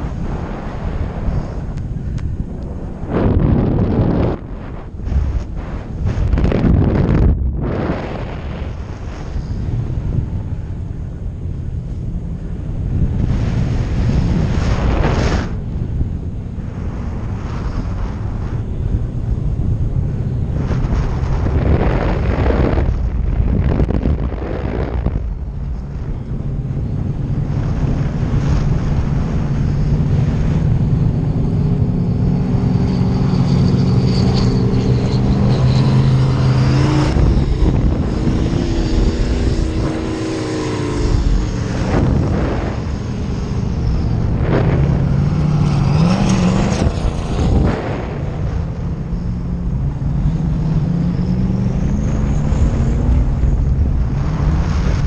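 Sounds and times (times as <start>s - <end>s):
low droning tone: 0.0s - 55.0s
wind rushing over microphone: 0.0s - 55.0s.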